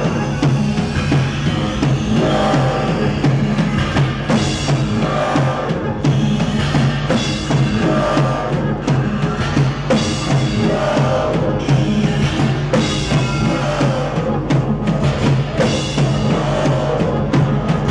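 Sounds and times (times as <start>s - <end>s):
drum kit with electronics: 0.0s - 17.9s
repeating low bass: 0.0s - 17.9s.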